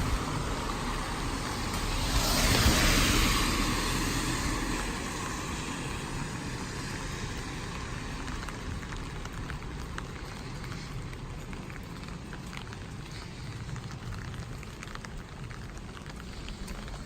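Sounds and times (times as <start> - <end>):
car tyres hissing on wet road: 0.0 - 17.0
steady rainfall: 0.0 - 17.0.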